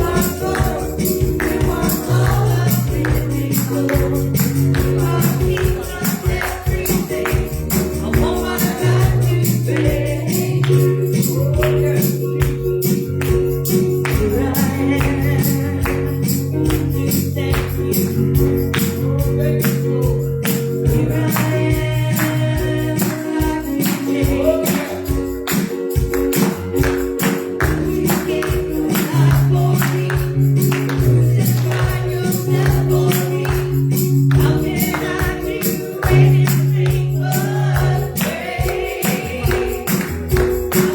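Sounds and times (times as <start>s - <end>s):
tambourine beat: 0.0s - 40.9s
worship band playing: 0.0s - 40.9s.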